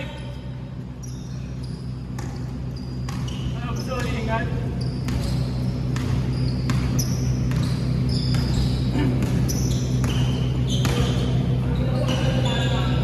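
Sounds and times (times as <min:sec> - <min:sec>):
sneaker squeaks: 0:00.0 - 0:13.0
steady low hum: 0:00.0 - 0:13.0
basketball bouncing: 0:01.6 - 0:12.6.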